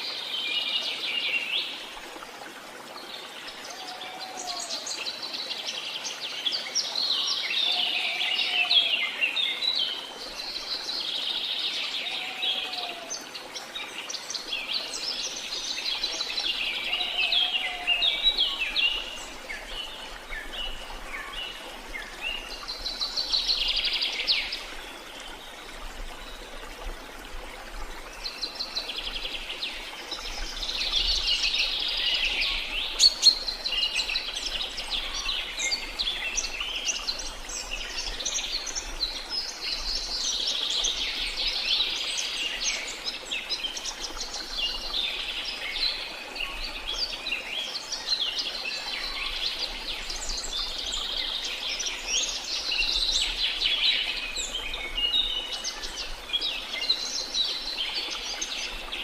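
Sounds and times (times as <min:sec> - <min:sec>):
waterfall hiss: 0:00.0 - 0:59.0.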